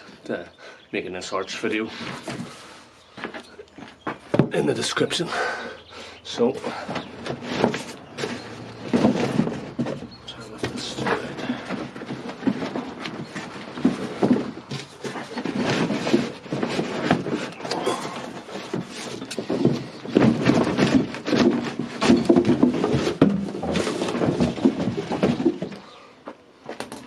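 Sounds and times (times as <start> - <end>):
cardboard and packaging rustling: 1.5 - 5.2, 5.8 - 27.0
irregular knocks and crackles: 1.5 - 27.0.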